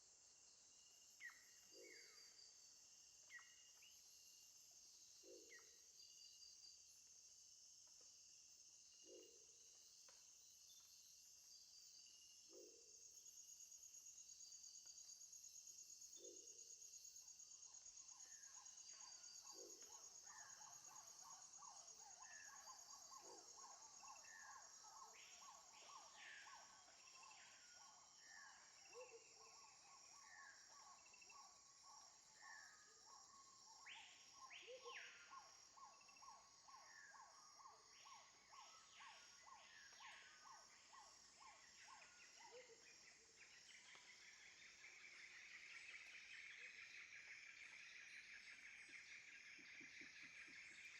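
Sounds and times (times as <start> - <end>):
insects chirring: 7.8 - 50.9.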